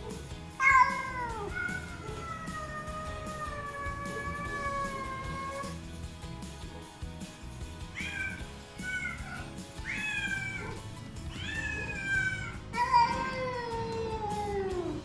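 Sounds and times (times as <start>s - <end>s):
cats meowing: 0.0s - 5.8s, 7.9s - 15.0s.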